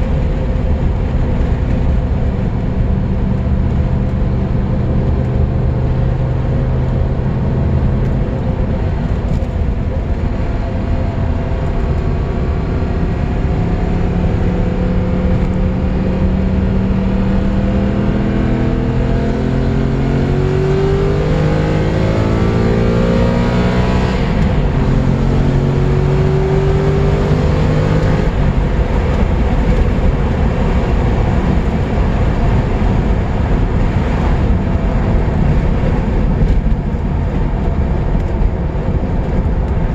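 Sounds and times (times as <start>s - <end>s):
car engine accelerating: 0.0s - 39.9s
road and wind rumble: 0.0s - 39.9s.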